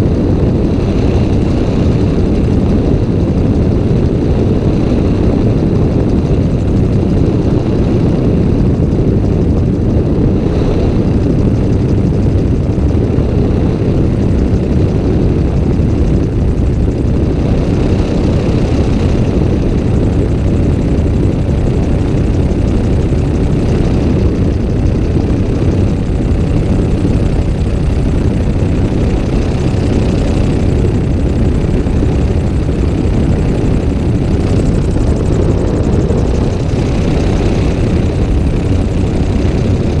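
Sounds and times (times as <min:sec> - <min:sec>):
airflow noise: 0:00.0 - 0:40.0
gyrocopter engine droning: 0:00.0 - 0:40.0.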